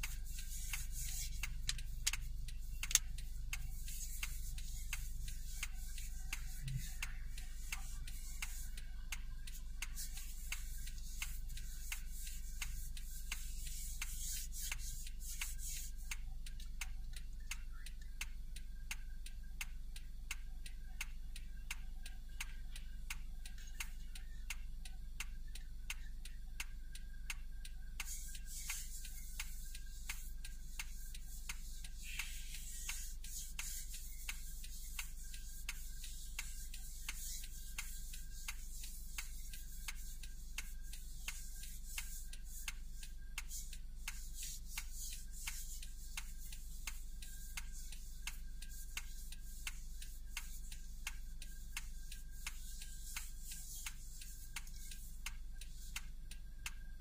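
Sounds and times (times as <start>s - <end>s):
low cabin hum: 0.0s - 46.6s.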